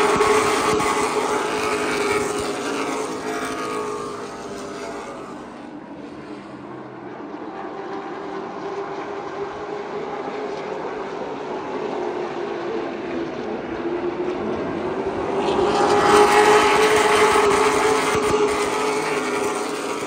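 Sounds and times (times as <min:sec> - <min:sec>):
stock car engines passing: 0:00.0 - 0:20.0.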